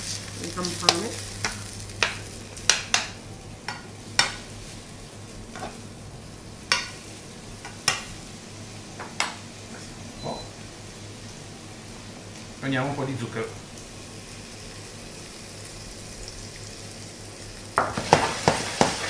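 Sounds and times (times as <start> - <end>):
onions sizzling: 0.0 - 19.0.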